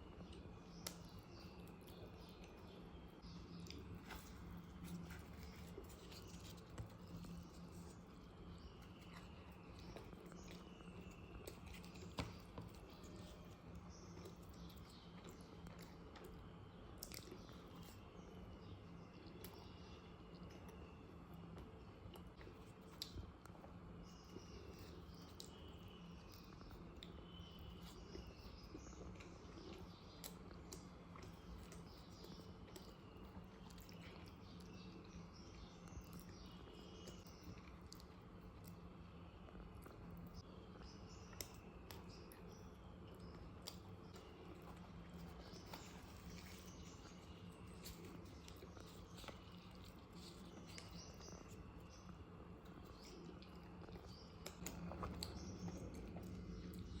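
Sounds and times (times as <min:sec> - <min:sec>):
quiet chewing: 0:00.0 - 0:57.0
steady low hum: 0:00.0 - 0:57.0.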